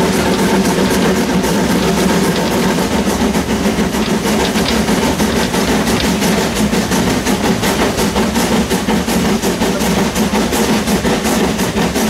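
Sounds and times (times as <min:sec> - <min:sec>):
engine rumble: 0:00.0 - 0:12.0
steam locomotive exhaust chuffs: 0:00.0 - 0:12.0.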